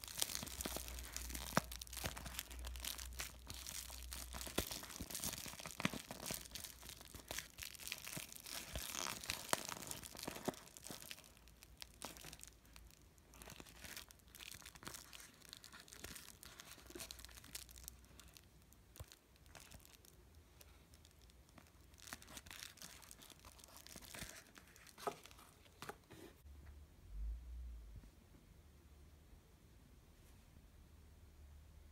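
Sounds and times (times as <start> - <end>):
plastic film crinkling: 0.0 - 26.1.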